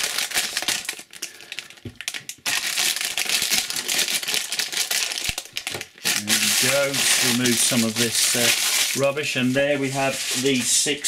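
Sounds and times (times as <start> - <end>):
plastic packaging and foil crinkling: 0.0 - 11.0.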